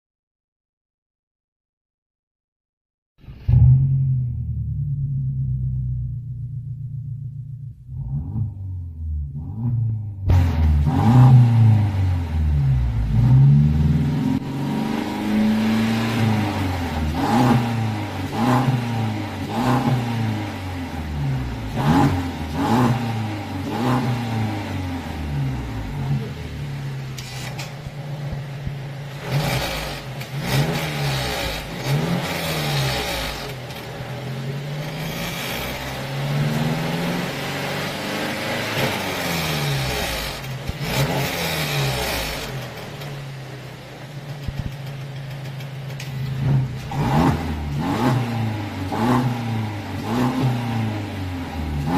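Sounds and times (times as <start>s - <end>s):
car engine revving: 3.2s - 51.9s.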